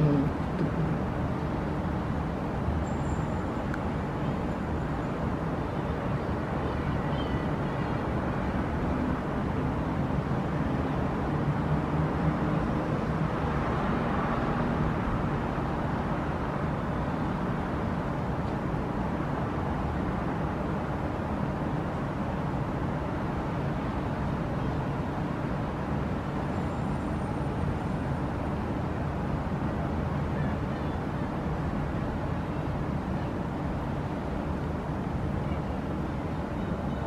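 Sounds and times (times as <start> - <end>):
distant city traffic hum: 0.0 - 37.0.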